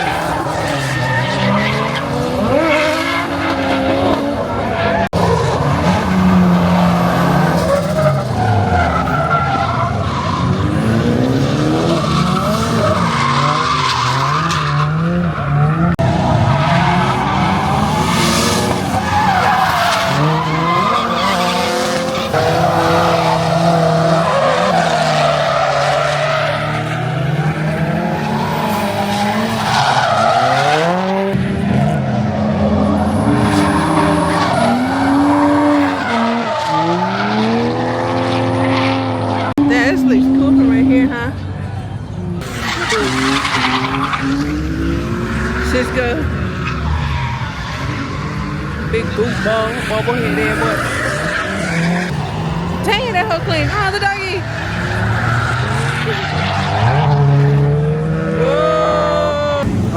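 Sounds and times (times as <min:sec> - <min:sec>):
car engines revving: 0:00.0 - 0:59.9
tyres squealing and skidding: 0:00.0 - 0:59.9.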